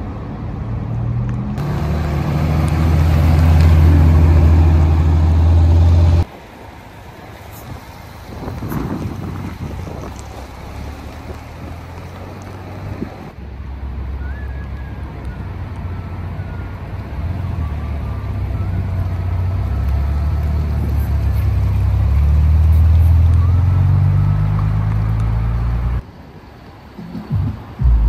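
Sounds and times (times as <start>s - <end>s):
car engine rumbling: 0.0s - 26.1s, 26.9s - 28.0s.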